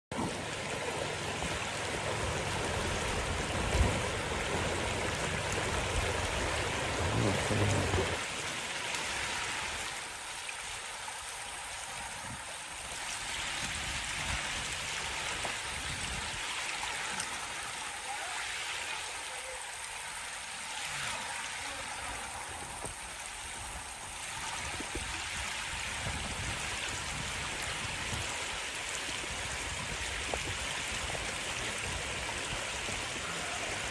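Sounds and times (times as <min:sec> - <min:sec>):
river water rushing: 0:00.1 - 0:33.9.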